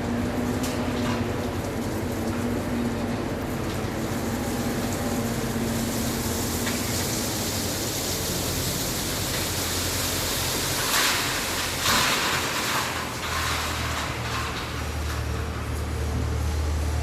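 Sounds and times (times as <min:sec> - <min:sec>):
heavy road traffic rushing: 0:00.0 - 0:17.0.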